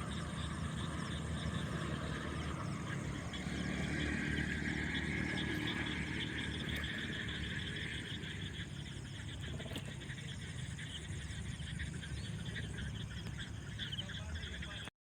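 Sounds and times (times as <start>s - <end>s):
frogs chorus calling: 0.0s - 14.9s.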